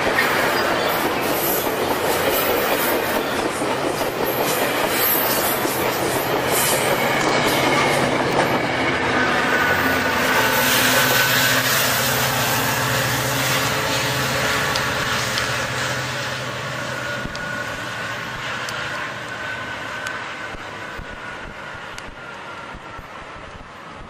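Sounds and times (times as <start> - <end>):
diesel locomotive engine: 0.0 - 24.0
rail joint clicks: 0.0 - 24.0
train wheels on rails: 0.0 - 24.0.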